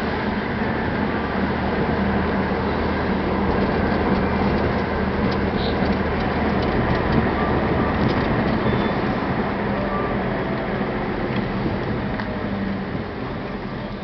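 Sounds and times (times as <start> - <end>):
car interior engine and tyre drone: 0.0 - 14.0.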